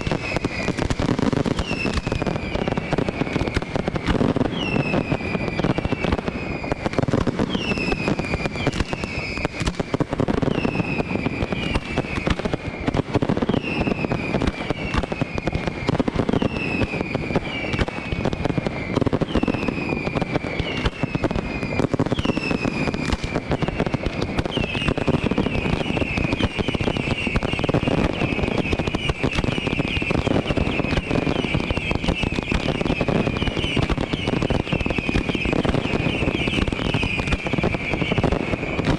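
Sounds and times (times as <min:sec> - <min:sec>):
fireworks crackling and bangs: 0:00.0 - 0:38.9
whistling firework shells: 0:00.0 - 0:38.9.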